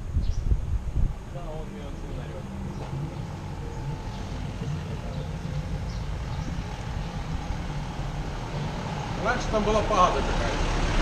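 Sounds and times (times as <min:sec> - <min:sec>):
street ambience low rumble: 0:00.0 - 0:11.0.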